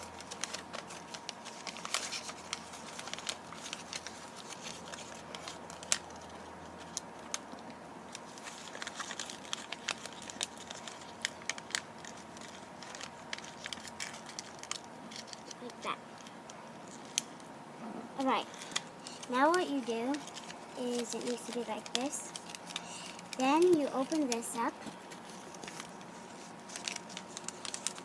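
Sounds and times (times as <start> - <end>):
paper rustling and crinkling: 0.0 - 17.4, 18.2 - 28.0.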